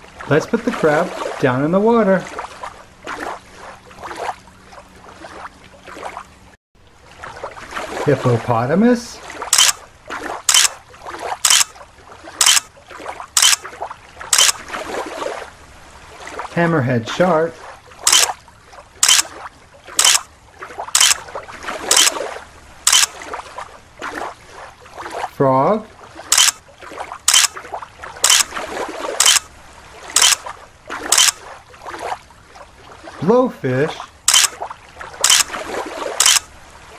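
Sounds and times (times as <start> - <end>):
rhythmic water splashes: 0.0 - 36.9.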